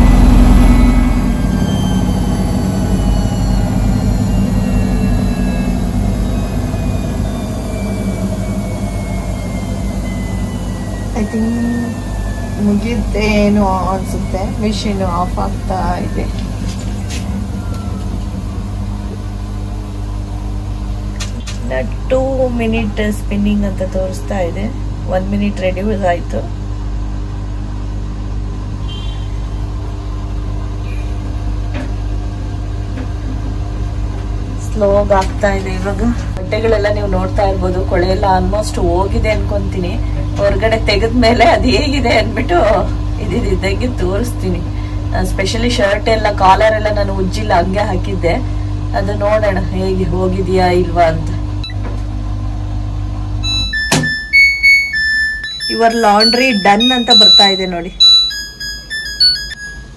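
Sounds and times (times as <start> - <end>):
washing machine drum spinning: 0.0 - 26.0, 31.2 - 48.4, 53.2 - 59.9
faint whine falling in pitch: 0.0 - 59.9.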